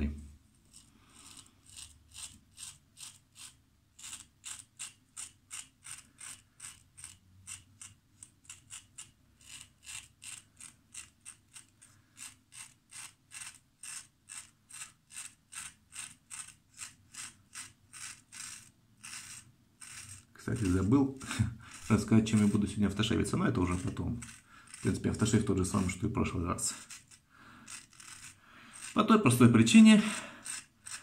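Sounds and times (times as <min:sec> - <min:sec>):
razor scraping stubble: 0:00.6 - 0:31.0.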